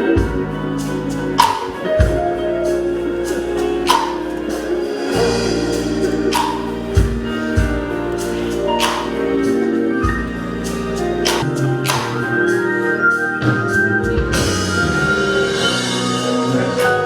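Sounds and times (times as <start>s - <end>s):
gospel organ chords: 0.0s - 17.0s.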